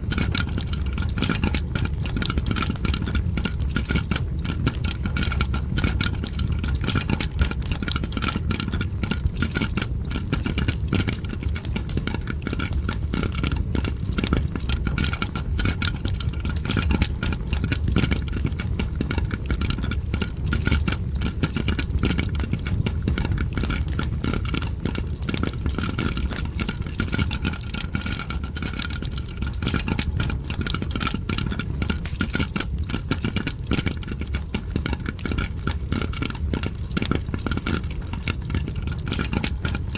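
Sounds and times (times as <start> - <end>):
fire crackling: 0.0 - 39.9
popcorn popping: 0.0 - 39.9.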